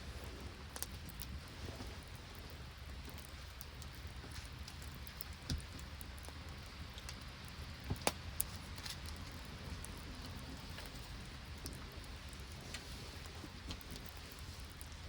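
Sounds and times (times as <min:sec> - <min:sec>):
rain and sleet pattering: 0:00.0 - 0:15.0
sharp ticks of sleet: 0:00.0 - 0:15.0.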